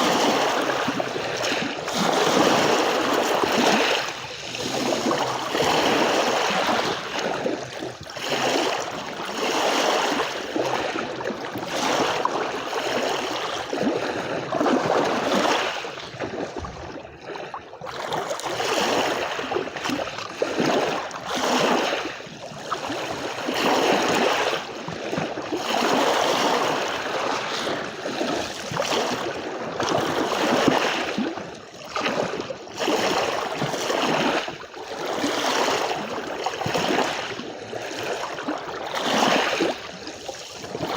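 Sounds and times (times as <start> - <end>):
small waves splashing on shore: 0.0 - 40.9.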